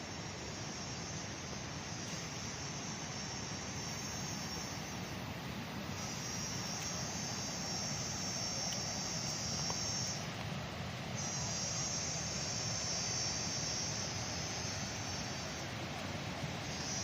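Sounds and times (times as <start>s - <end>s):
steady hiss: 0.0s - 17.0s
insect buzzing: 0.7s - 10.3s, 11.1s - 15.8s, 16.6s - 17.0s.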